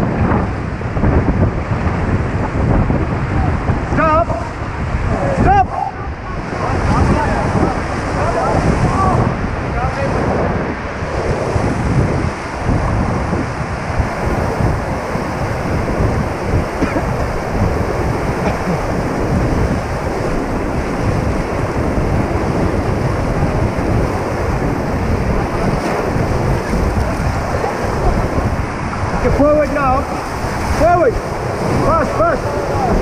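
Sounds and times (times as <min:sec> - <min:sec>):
white water rushing: 0:00.0 - 0:33.0
wind buffeting microphone: 0:00.0 - 0:33.0.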